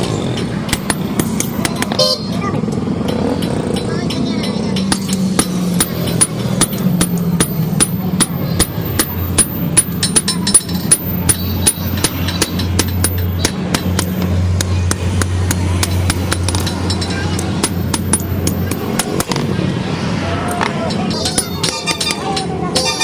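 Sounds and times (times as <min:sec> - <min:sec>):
hammer striking metal on anvil: 0:00.0 - 0:19.6, 0:20.5 - 0:23.0.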